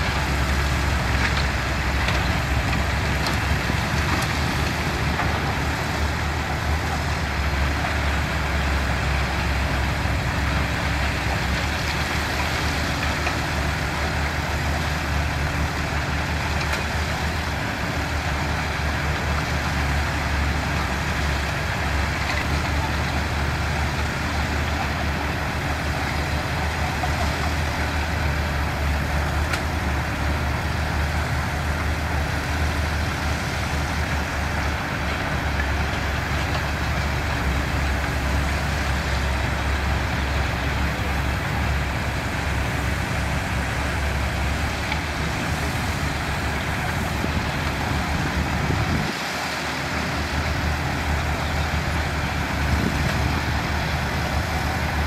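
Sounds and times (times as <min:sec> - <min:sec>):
heavy diesel engines rumbling: 0:00.0 - 0:55.0.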